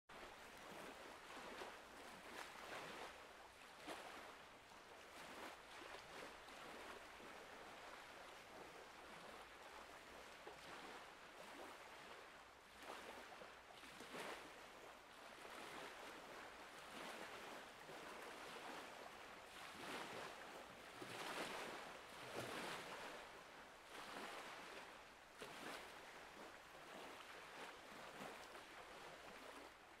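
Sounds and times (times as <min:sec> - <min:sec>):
small waves lapping on rocks: 0:00.2 - 0:30.0.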